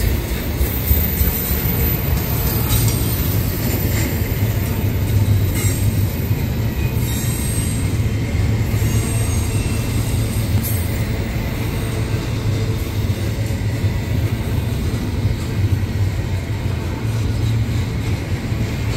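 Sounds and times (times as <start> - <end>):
freight cars rolling on rails: 0.0 - 18.9.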